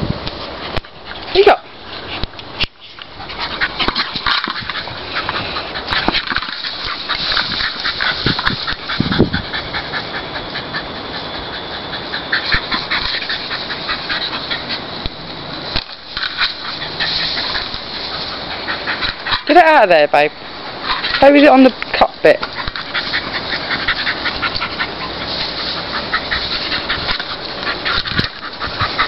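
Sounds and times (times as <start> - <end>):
rustling through long grass: 0.0 - 29.0
dog panting and snuffling: 0.4 - 15.1, 15.8 - 19.8, 22.3 - 29.0.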